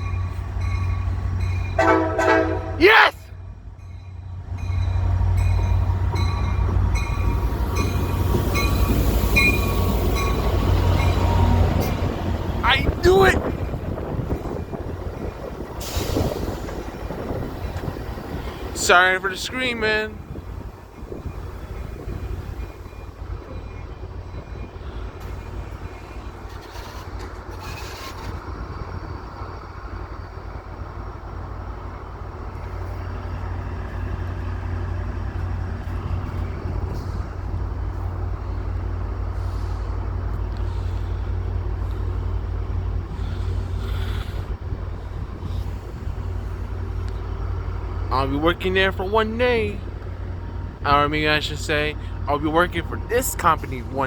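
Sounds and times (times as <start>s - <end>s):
diesel locomotive engine rumbling: 0.0s - 54.0s.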